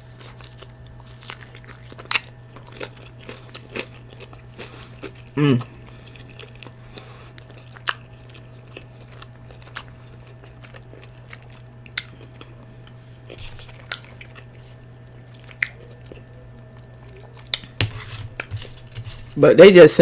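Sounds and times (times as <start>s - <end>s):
person chewing with smacking: 0.0s - 19.5s
steady low hum: 0.0s - 20.0s.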